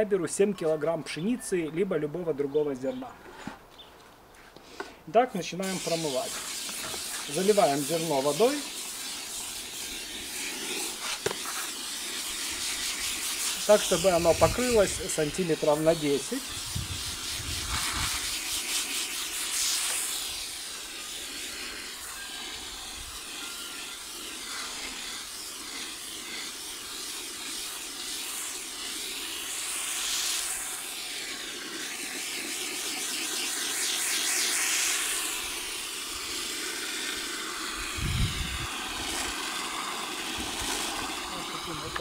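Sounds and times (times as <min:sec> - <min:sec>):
hose spraying water into bucket: 0:05.4 - 0:42.0.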